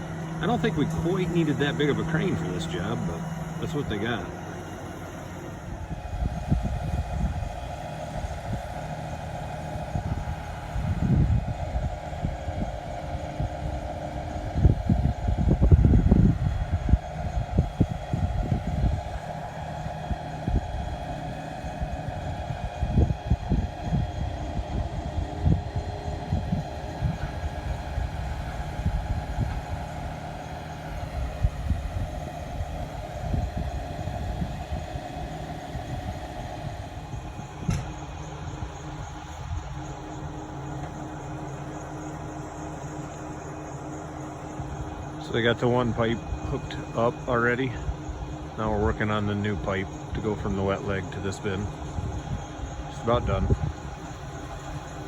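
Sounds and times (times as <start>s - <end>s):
crane engine running: 0.0s - 55.0s.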